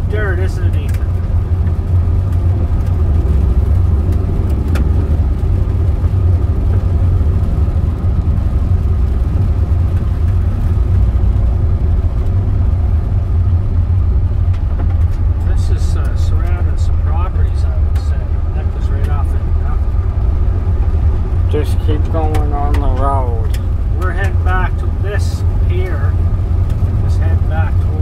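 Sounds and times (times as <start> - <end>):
car engine drone: 0.0 - 28.0
tyres on road: 0.0 - 28.0.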